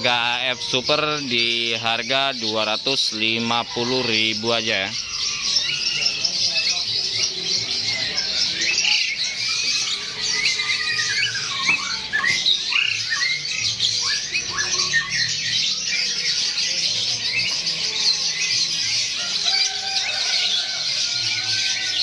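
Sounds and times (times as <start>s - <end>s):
caged birds chirping and squawking: 0.0s - 22.0s.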